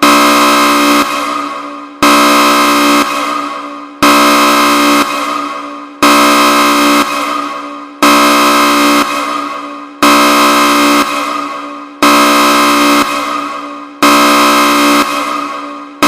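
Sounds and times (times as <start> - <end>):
emergency alert horn blasts: 0.0 - 16.0.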